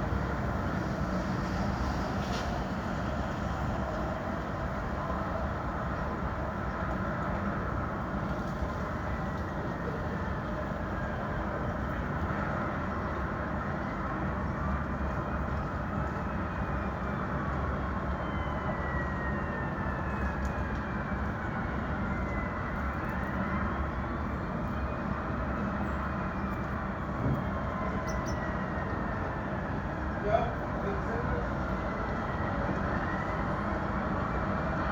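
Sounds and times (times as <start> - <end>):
dense traffic noise: 0.0 - 34.9.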